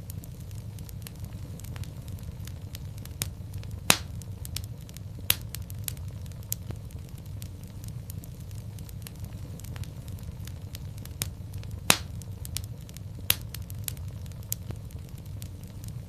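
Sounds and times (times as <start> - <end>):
fire crackling in a fireplace: 0.0 - 16.0
steady low rumble: 0.0 - 16.0.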